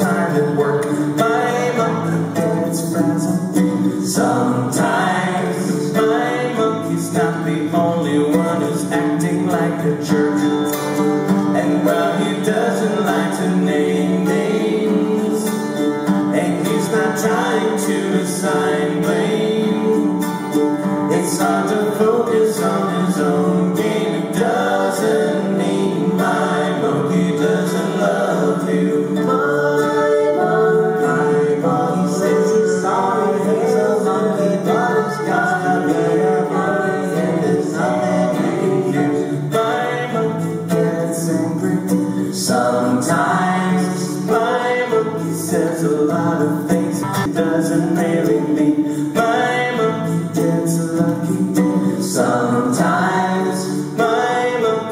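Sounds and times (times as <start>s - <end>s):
acoustic guitar: 0.0s - 54.9s
ukulele: 0.0s - 54.9s
voices singing in harmony: 0.0s - 54.9s.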